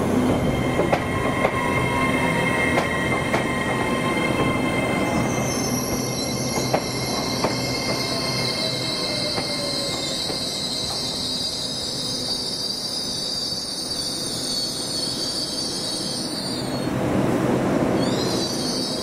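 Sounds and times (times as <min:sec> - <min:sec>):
train wheels squealing on rails: 0:00.0 - 0:17.0, 0:17.8 - 0:19.0.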